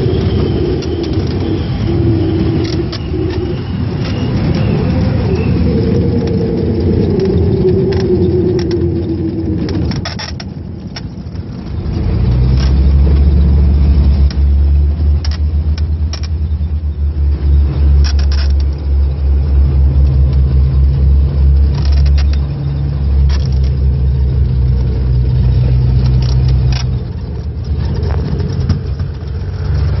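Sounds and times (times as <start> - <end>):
aircraft engines droning: 0.0 - 30.0.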